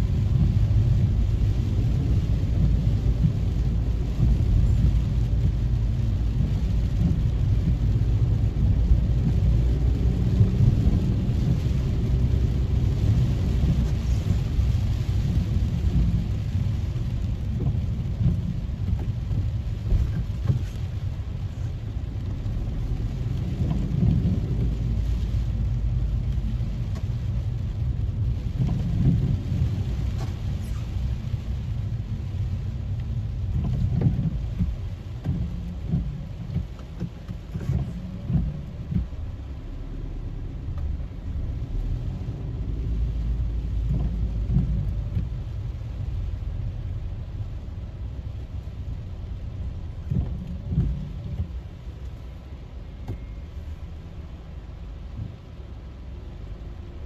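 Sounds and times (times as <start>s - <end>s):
car rumbling on wet road: 0.0s - 57.0s
rain on car roof: 0.0s - 57.0s.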